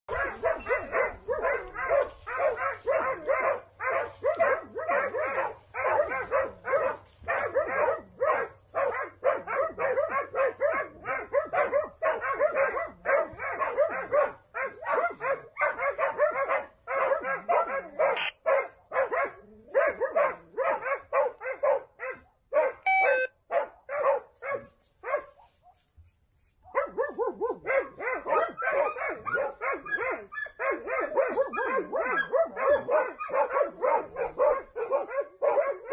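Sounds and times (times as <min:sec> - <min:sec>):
dogs barking rapidly: 0:00.1 - 0:26.0, 0:26.6 - 0:35.9.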